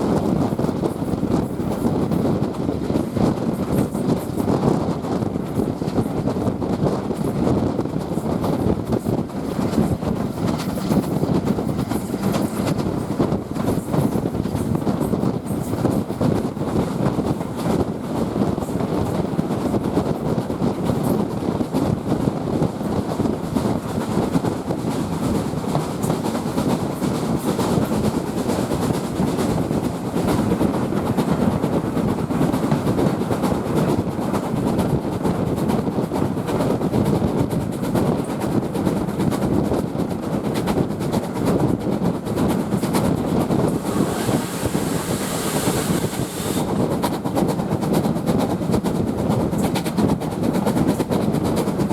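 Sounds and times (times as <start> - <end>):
train rolling rumble: 0.0 - 51.9.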